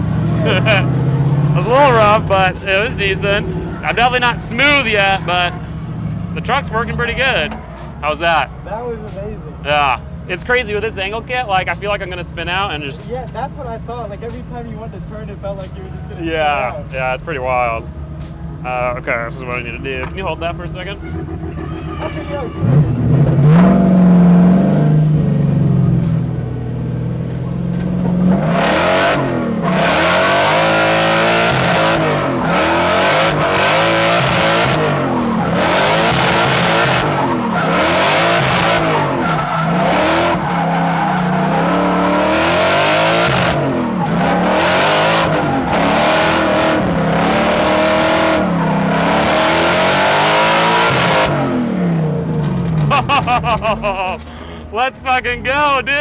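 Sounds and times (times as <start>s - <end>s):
engine revving: 0.0s - 8.5s, 16.5s - 54.3s.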